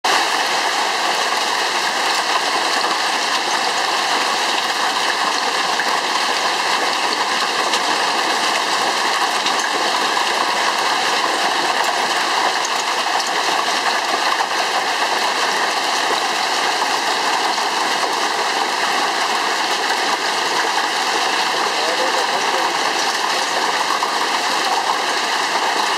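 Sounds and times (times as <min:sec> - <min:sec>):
hail and rain pelting down: 0:00.0 - 0:25.9.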